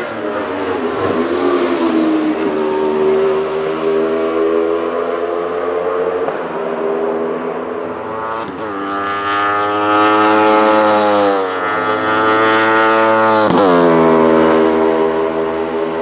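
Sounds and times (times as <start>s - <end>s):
race car passing at high revs: 0.0s - 16.0s.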